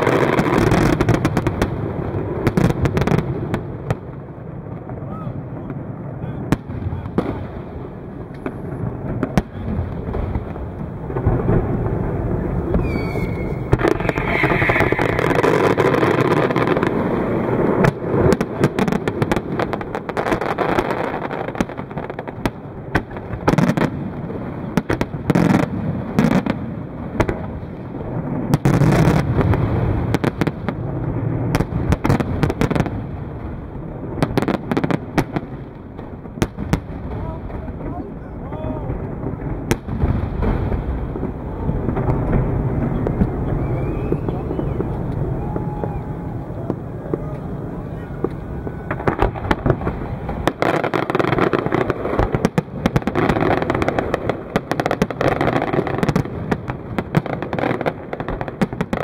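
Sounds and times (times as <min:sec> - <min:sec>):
firework booms and bangs: 0:00.0 - 0:59.0
firework crackling: 0:00.0 - 0:59.0.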